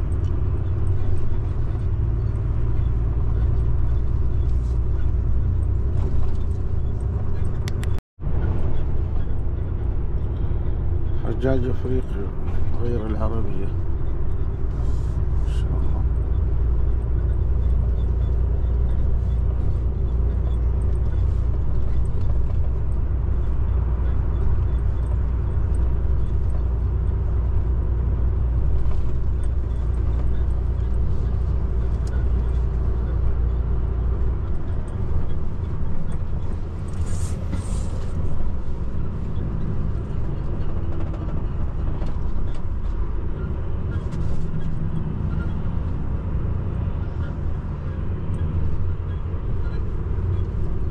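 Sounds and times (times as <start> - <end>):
truck engine and road noise: 0.0 - 50.9.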